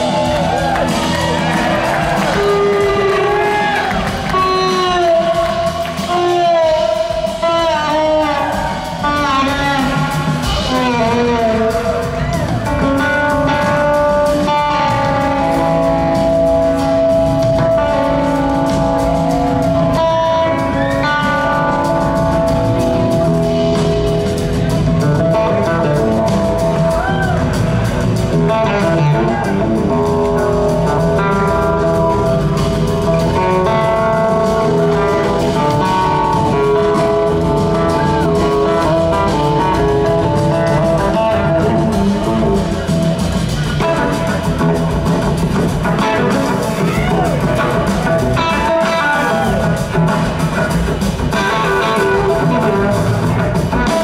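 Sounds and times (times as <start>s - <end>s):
electric slide guitar solo: 0.0s - 43.0s, 45.9s - 50.4s, 51.3s - 54.0s
bass guitar: 0.0s - 54.0s
drum kit: 0.0s - 54.0s.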